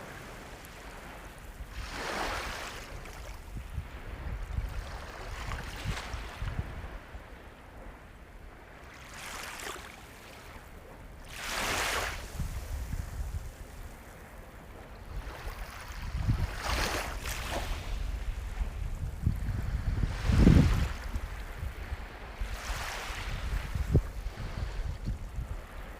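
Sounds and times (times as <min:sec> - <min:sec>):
sea waves washing onto shore: 0:00.0 - 0:25.9.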